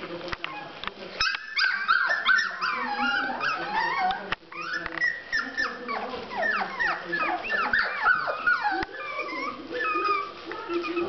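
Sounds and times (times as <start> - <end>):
puppies whining and yipping: 0.5 - 11.0.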